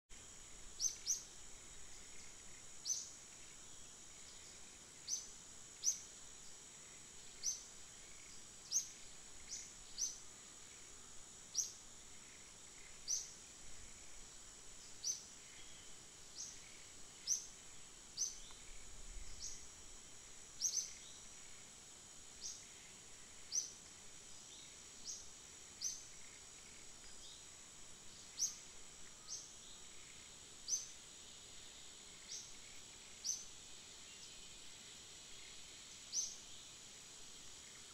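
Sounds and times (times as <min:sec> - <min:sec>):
insect drone: 0:00.1 - 0:37.9.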